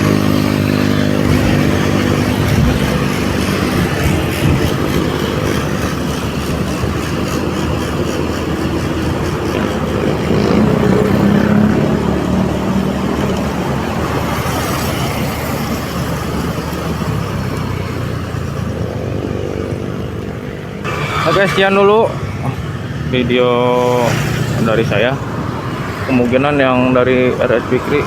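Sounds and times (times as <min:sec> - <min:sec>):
motorcycle engine running: 0:00.0 - 0:28.0
road noise: 0:00.0 - 0:28.0.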